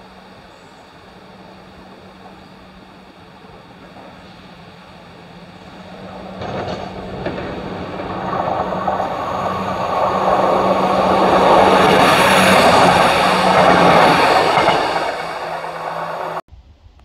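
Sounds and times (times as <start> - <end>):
train engine drone: 0.0 - 16.4
wheel-on-rail noise: 0.0 - 16.4.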